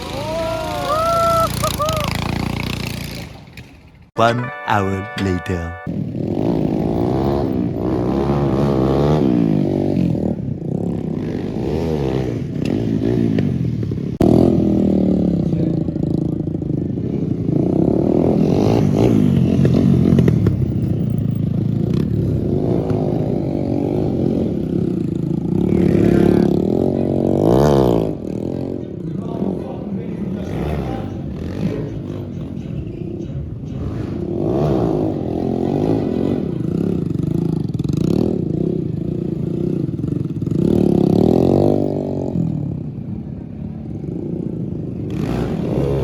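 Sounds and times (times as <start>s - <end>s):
motorcycle engine revving: 0.0s - 4.2s, 5.9s - 46.0s.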